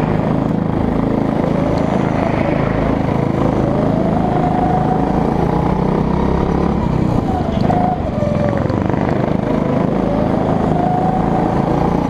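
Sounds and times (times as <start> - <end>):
go-kart engine accelerating: 0.0 - 12.0.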